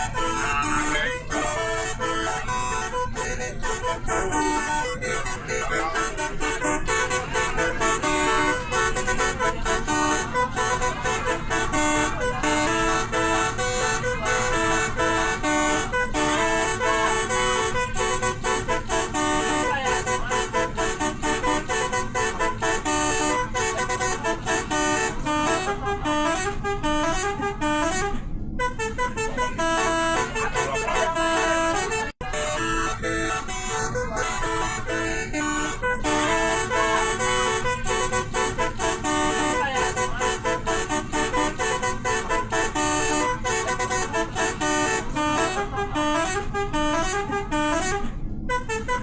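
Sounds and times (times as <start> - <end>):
low road noise: 0.0 - 49.0
multi-tone air horns playing tune: 0.0 - 49.0.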